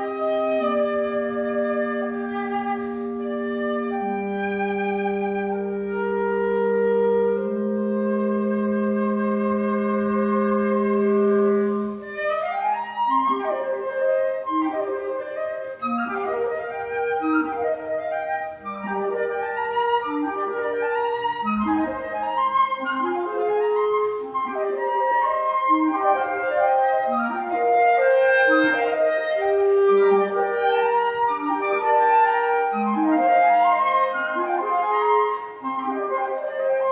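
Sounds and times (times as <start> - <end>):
flute and clarinets playing: 0.0 - 36.9.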